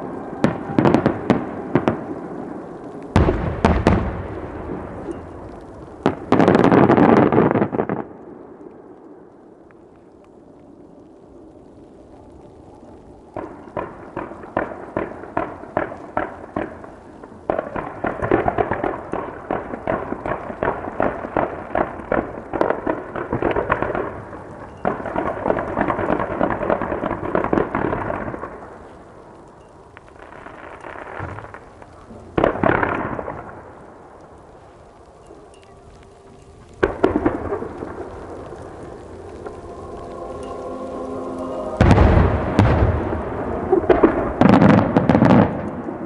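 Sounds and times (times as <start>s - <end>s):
fireworks crackling and popping: 0.0s - 46.0s.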